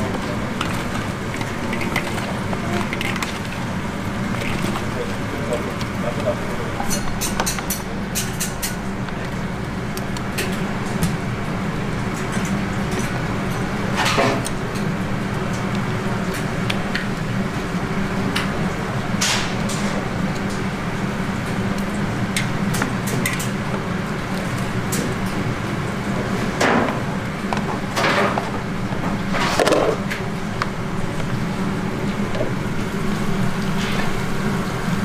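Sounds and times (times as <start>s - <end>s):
steady background hum: 0.0s - 35.0s.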